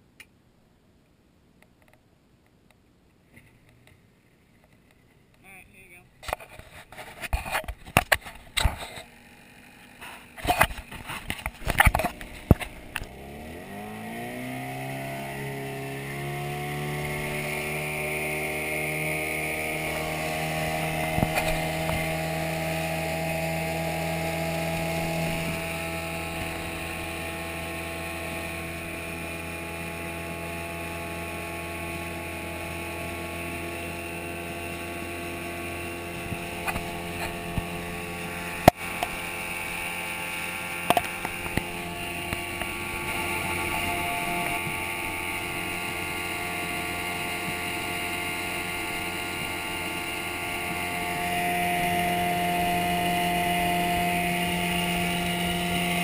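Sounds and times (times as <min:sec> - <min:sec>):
outboard motor running: 0:05.4 - 0:56.0.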